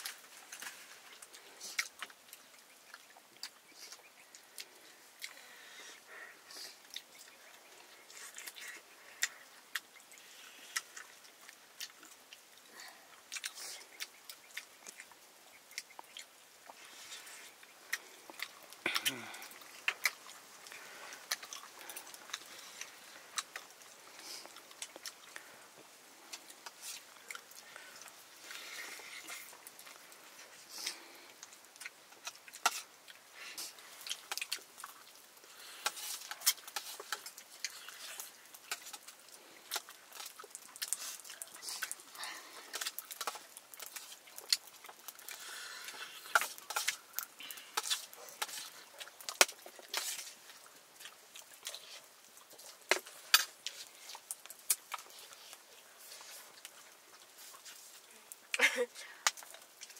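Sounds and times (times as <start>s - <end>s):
people chewing: 0.0s - 59.9s.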